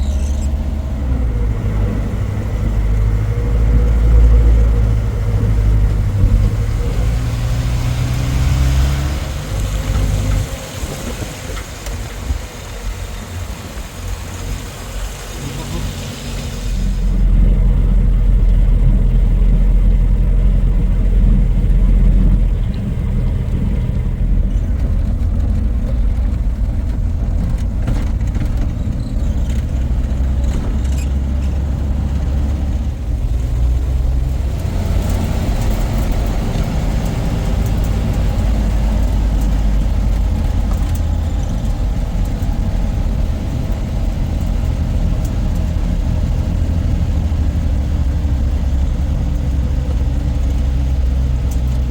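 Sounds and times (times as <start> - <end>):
low engine drone: 0.0 - 51.9.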